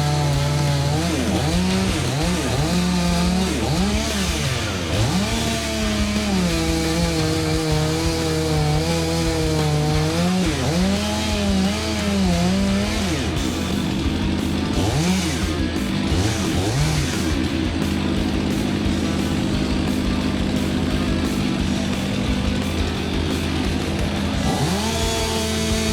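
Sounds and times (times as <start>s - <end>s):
chainsaw cutting: 0.0s - 25.9s
music: 0.0s - 25.9s.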